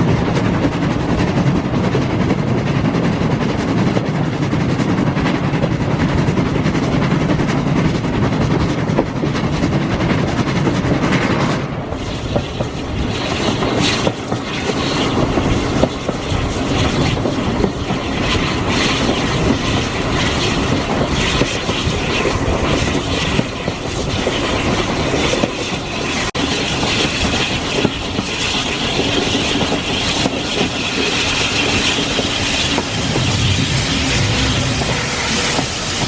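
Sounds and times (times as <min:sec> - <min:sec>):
train coach rattling: 0:00.0 - 0:36.0
train rumbling on tracks: 0:00.0 - 0:36.0.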